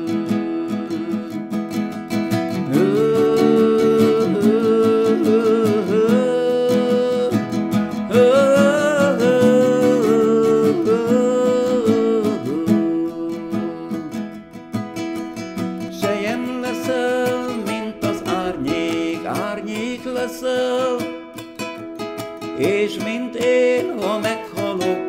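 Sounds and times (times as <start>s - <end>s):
man singing wordless melody: 0.0s - 25.0s
plucked acoustic guitar: 0.0s - 25.0s.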